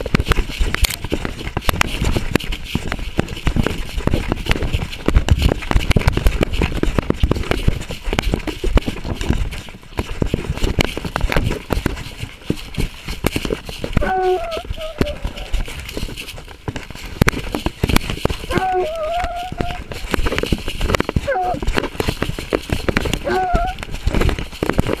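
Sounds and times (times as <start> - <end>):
brush and leaves crackling: 0.0 - 25.0
dog footfalls: 0.0 - 25.0.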